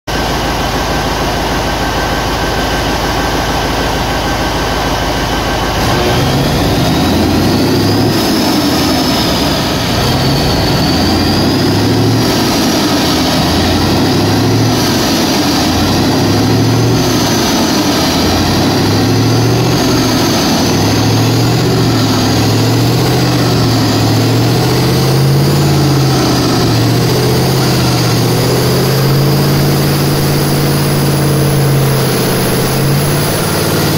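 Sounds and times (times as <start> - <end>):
diesel engine revving: 0.1 - 33.9
high whine: 0.1 - 33.9.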